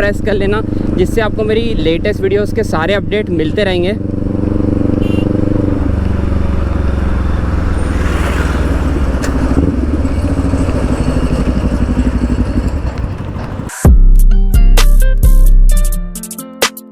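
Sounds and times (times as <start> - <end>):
motorcycle engine through loud exhaust: 0.0 - 13.7.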